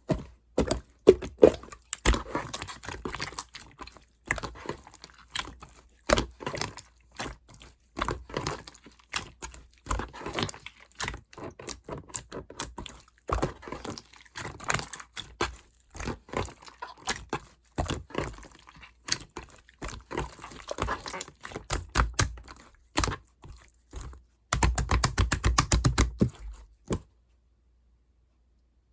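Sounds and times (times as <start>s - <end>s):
slime kneaded by hand: 0.0s - 27.2s.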